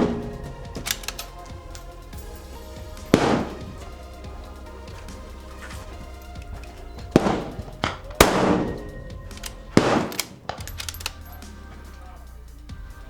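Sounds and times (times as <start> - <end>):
rifle shots: 0.0 - 12.2
background music: 0.0 - 13.0.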